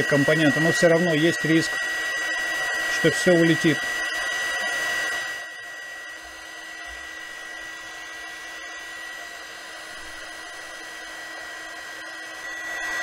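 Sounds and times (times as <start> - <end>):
heat gun fan blowing with whine: 0.0 - 13.0.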